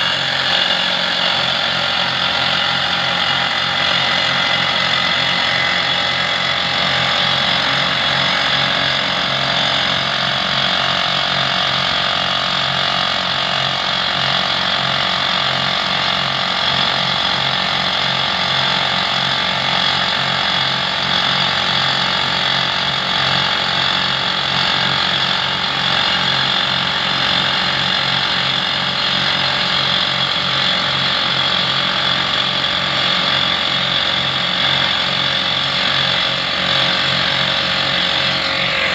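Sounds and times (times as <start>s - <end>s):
pneumatic rock drill hammering: 0.0s - 38.9s.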